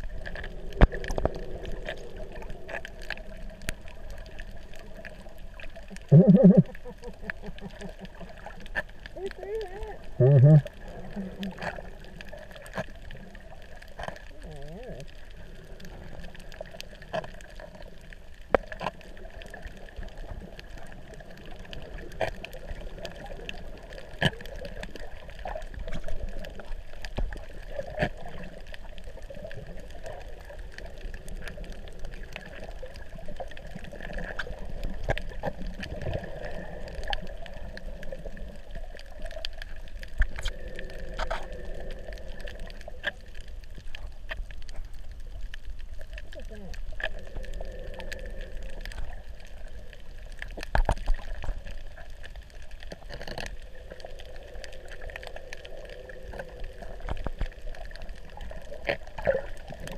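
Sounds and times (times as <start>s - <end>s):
muffled underwater wash: 0.0s - 59.9s.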